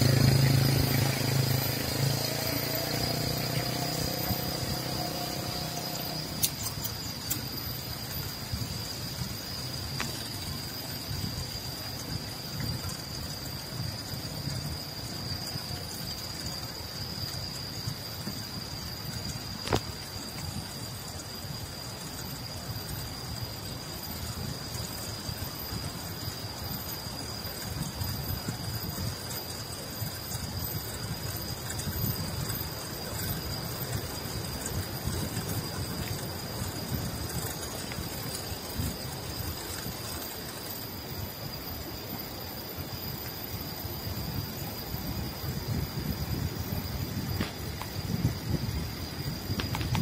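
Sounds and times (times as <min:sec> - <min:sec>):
bicycle tyres rumbling on concrete: 0:00.0 - 0:50.0
wind noise: 0:00.0 - 0:50.0.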